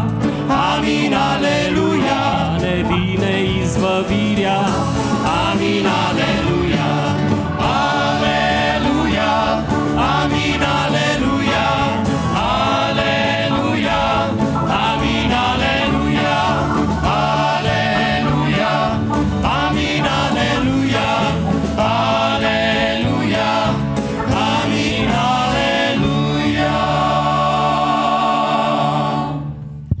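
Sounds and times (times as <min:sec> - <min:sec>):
choir singing worship song: 0:00.0 - 0:29.7
live band playing: 0:00.0 - 0:29.9.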